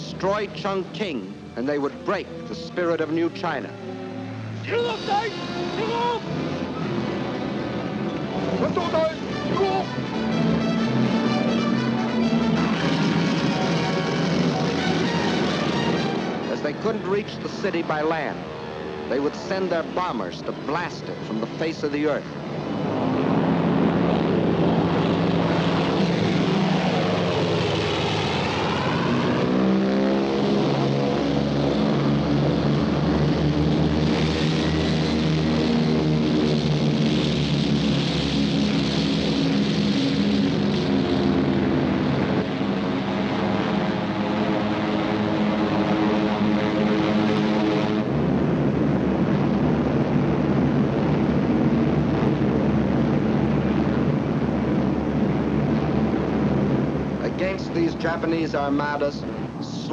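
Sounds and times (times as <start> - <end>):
propeller aircraft engines droning: 0.0 - 59.9.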